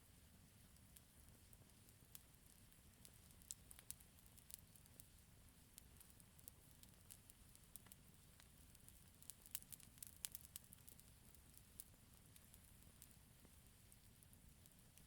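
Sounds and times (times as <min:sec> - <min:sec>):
campfire crackling: 0:00.8 - 0:15.0.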